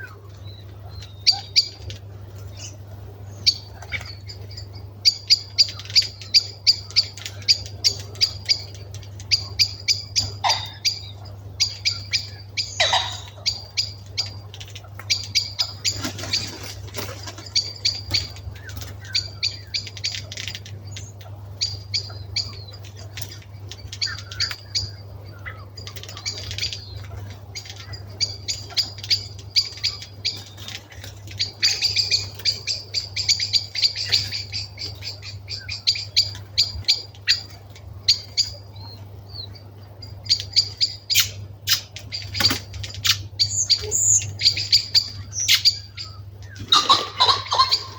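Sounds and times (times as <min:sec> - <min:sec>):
birds giving sharp chip calls: 0:00.0 - 0:47.9
steady low hum: 0:00.0 - 0:47.9.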